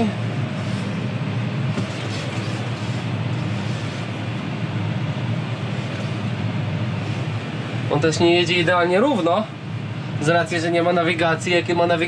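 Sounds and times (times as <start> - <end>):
tractor engine drone: 0.0 - 10.9
combine harvester running: 0.0 - 11.2.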